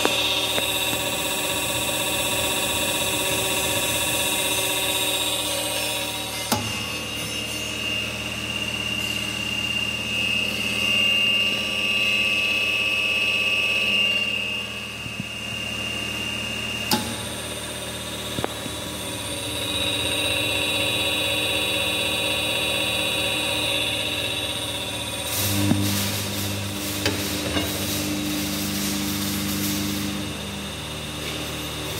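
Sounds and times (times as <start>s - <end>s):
hydraulic pump humming and whining: 0.0s - 31.9s.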